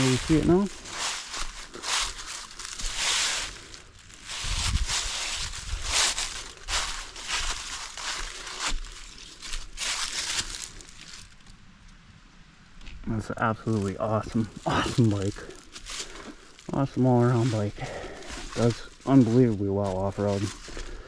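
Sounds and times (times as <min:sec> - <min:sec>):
footsteps crunching dry leaves: 0:00.0 - 0:11.6, 0:13.6 - 0:21.0.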